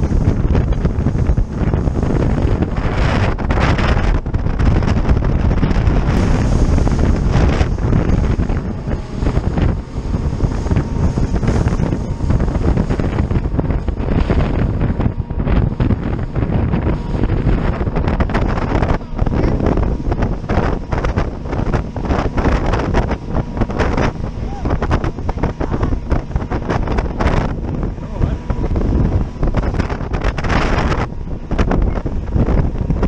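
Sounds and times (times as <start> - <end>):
water rushing and splashing: 0.0 - 33.0
wind buffeting microphone: 0.0 - 33.0.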